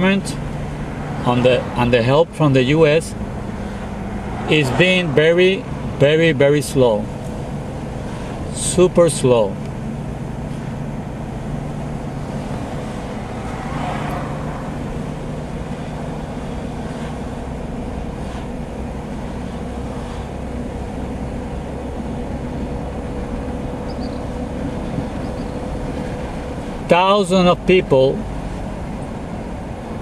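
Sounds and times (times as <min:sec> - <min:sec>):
car engine hum and road noise: 0:00.0 - 0:30.0.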